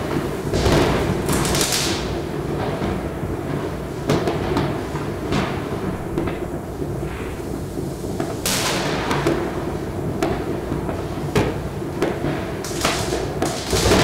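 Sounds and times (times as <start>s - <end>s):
fireworks and firecrackers: 0.0s - 14.0s.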